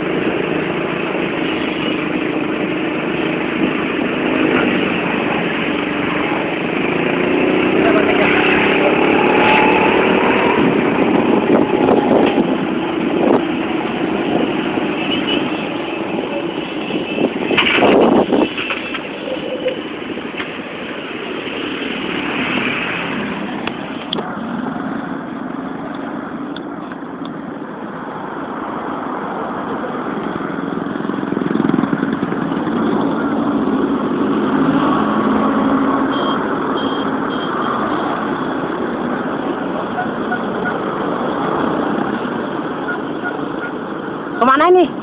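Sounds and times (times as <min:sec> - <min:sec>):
bus running close by: 0:00.0 - 0:45.0
motorcycles passing: 0:00.0 - 0:45.0
road rumble: 0:00.0 - 0:45.0.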